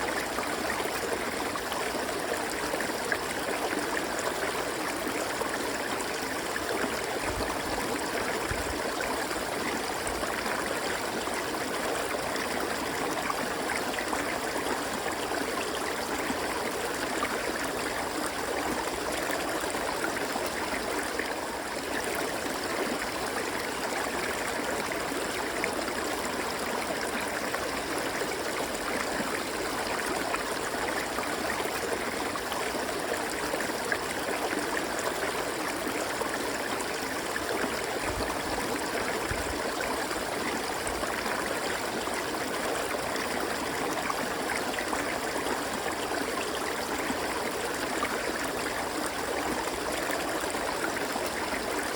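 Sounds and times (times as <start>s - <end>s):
river water flowing over rocks: 0.0s - 51.9s.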